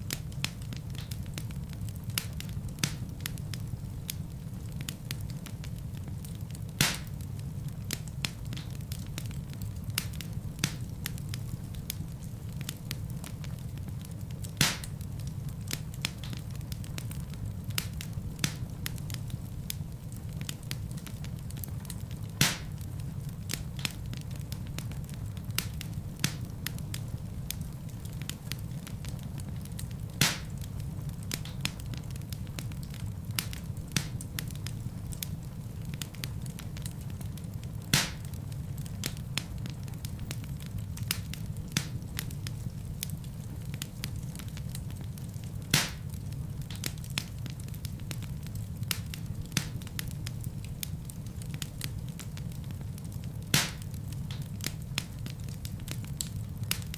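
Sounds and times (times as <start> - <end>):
burning logs popping: 0.0 - 56.9
fire rumbling and crackling: 0.0 - 56.9.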